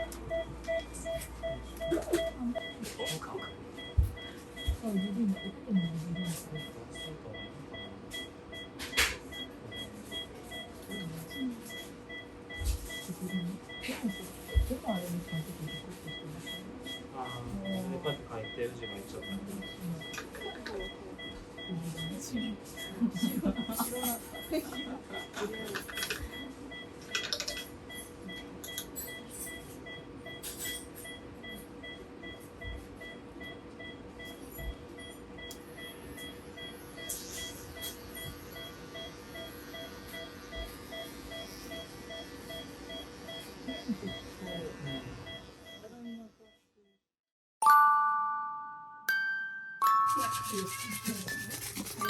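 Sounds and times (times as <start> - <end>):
patient monitor beeping: 0.0 - 46.6, 50.1 - 52.0.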